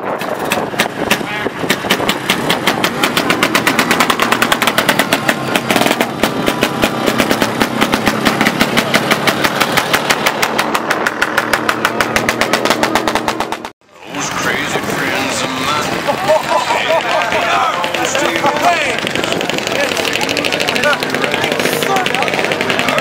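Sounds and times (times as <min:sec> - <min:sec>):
snowmobile engine idling: 0:00.4 - 0:23.0.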